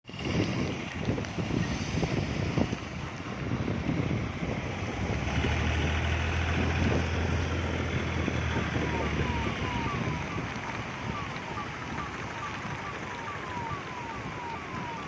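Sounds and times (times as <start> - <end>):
rushing floodwater: 0.0 - 15.0
wind buffeting microphone: 0.0 - 15.0.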